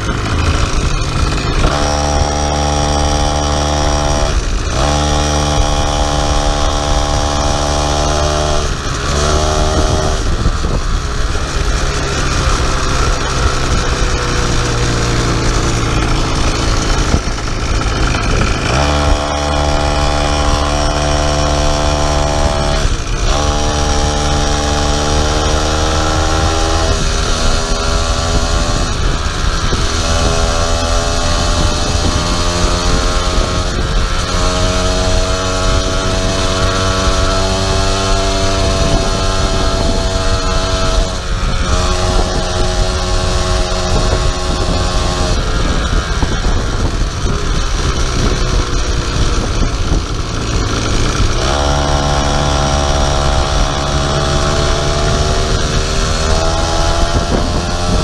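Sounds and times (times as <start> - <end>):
two-stroke engine revving under load: 0.0 - 58.0.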